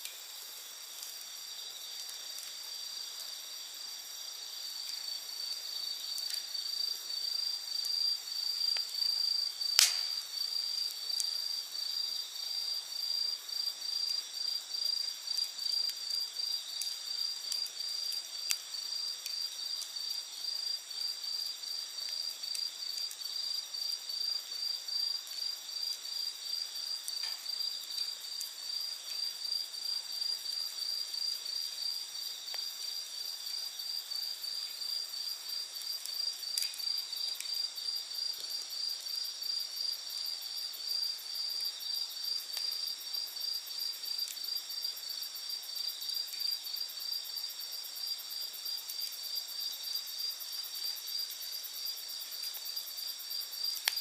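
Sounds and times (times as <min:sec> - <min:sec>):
campfire crackling: 0:00.0 - 0:54.0
insects chirping: 0:00.0 - 0:54.0
insect trill: 0:00.1 - 0:54.0.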